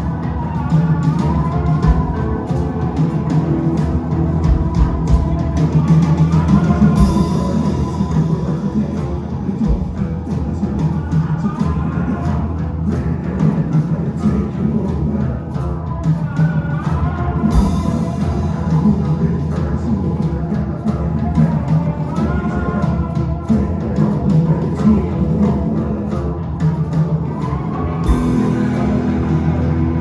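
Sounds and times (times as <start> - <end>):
rock band playing: 0.0 - 30.0.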